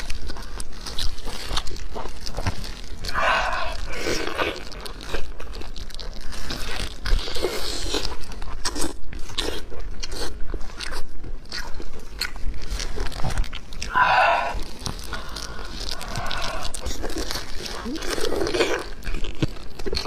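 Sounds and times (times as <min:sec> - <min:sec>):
crunchy chewing of food: 0:00.0 - 0:20.0.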